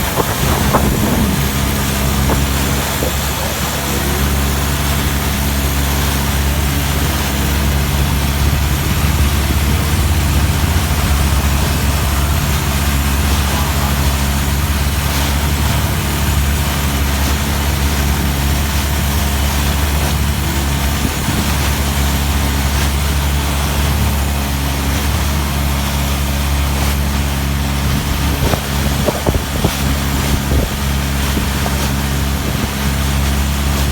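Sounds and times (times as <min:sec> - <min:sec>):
boat engine running: 0:00.0 - 0:33.9
wash of noise: 0:00.0 - 0:33.9.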